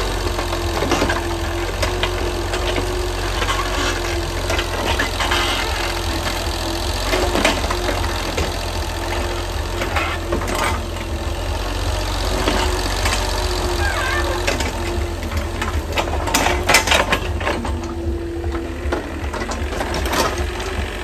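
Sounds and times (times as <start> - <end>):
motor running: 0.0 - 21.0.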